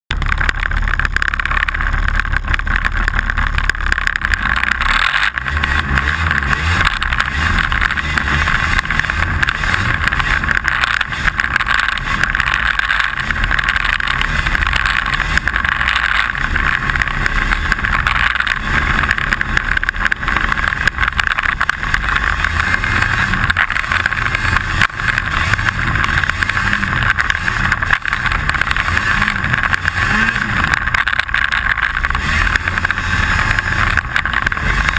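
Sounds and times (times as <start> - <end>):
snowmobile engine running: 0.1 - 34.9
steady rattle: 0.1 - 34.9.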